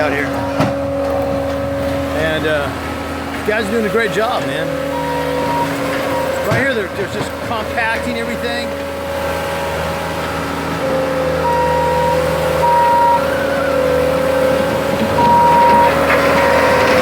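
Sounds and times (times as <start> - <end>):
backup alarm beeping: 0.0 - 17.0
construction machinery running: 0.0 - 17.0.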